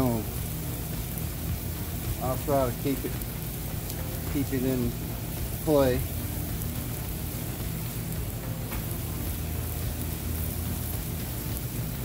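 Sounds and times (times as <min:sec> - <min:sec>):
low steady hum: 0:00.0 - 0:12.0
meat sizzling on a grill: 0:00.0 - 0:12.0.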